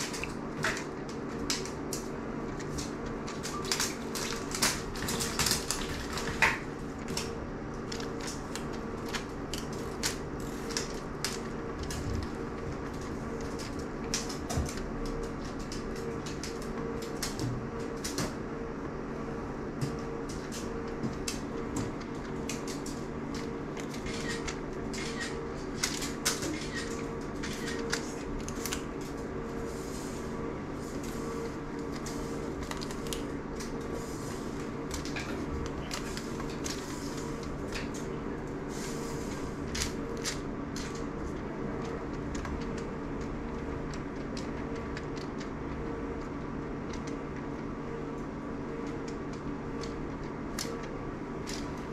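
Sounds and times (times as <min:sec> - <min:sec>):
steady room hum: 0:00.0 - 0:51.9.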